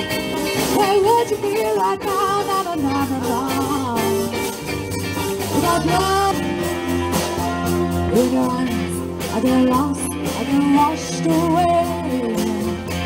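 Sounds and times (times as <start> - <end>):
bass guitar: 0.0 - 13.0
drum kit: 0.0 - 13.0
electric guitar: 0.0 - 13.0
woman singing lead: 0.0 - 13.0.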